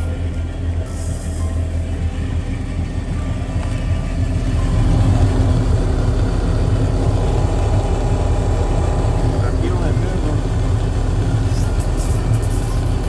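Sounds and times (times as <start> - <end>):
boat engine idling: 0.0 - 13.0
electric pump running: 0.0 - 13.0
steady hum: 0.0 - 13.0.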